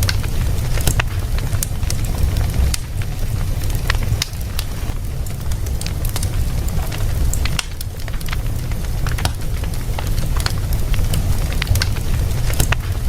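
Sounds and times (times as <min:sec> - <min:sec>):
low rumble: 0:00.0 - 0:13.0
wood fire crackling and popping: 0:00.0 - 0:13.0.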